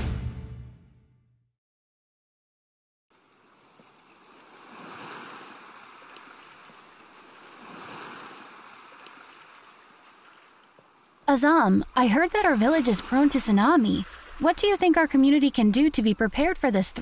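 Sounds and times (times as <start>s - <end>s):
ocean waves washing onto beach: 3.2s - 17.0s.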